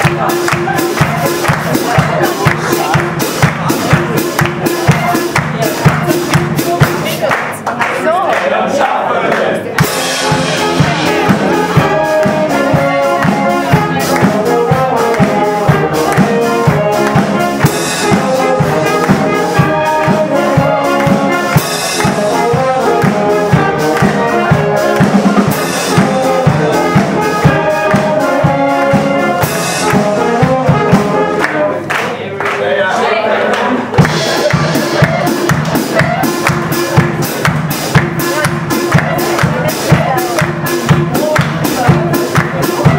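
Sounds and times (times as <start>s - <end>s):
wind band playing a tune: 0.0s - 7.4s, 9.8s - 32.0s, 33.9s - 42.9s
drum beat: 0.0s - 9.0s, 9.7s - 32.0s, 33.8s - 42.9s.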